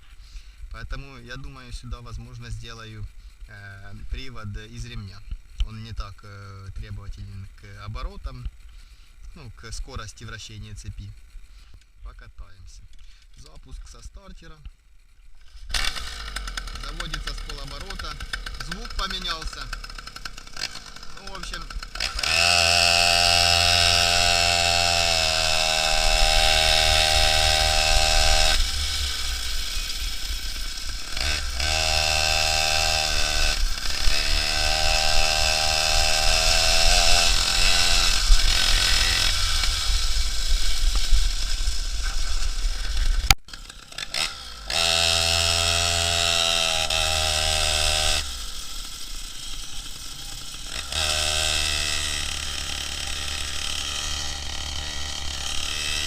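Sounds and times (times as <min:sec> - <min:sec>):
two-stroke engine running: 0:00.0 - 0:11.8, 0:13.0 - 0:56.0.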